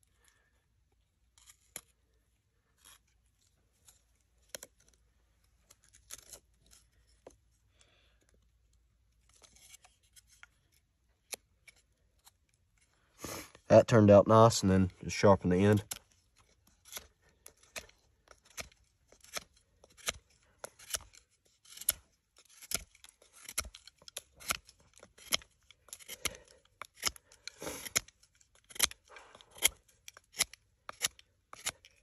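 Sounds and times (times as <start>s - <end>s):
knife shaving wood: 0.1s - 13.6s, 15.2s - 32.0s.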